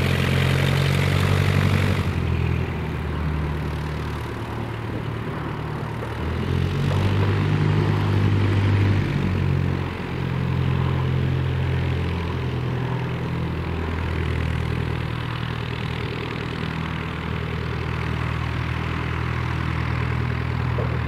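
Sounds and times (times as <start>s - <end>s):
light aircraft engine running: 0.0s - 21.0s.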